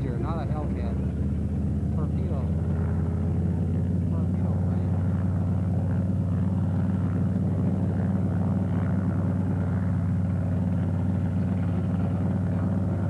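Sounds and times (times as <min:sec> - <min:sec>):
propeller plane engines idling: 0:00.0 - 0:13.0.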